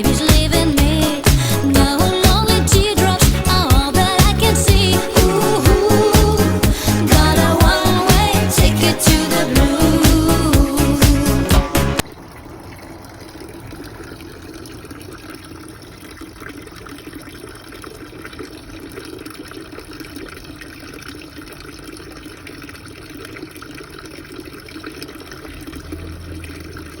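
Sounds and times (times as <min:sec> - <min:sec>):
water running and splashing: 0:00.0 - 0:27.0.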